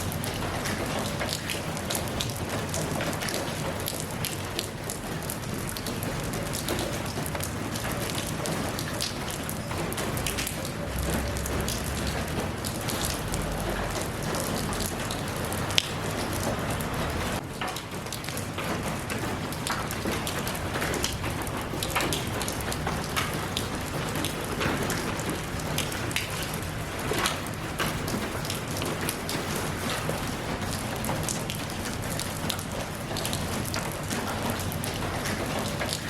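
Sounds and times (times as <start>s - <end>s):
raindrops ticking: 0.0s - 36.0s
steady rain: 0.0s - 36.0s.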